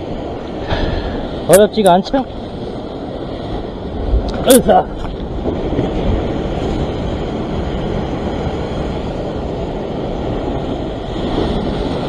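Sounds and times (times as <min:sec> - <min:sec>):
waves breaking over rocks: 0:00.0 - 0:12.0
wind buffeting microphone: 0:00.0 - 0:12.0.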